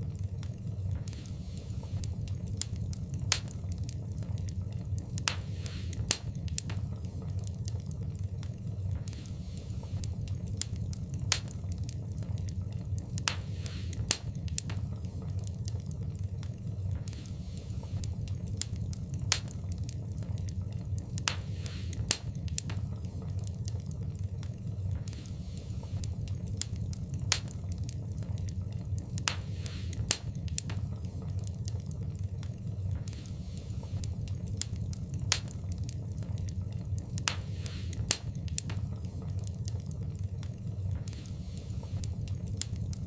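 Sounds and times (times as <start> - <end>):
fire low rumble: 0.0 - 43.0
wood fire crackling and popping: 0.0 - 43.0.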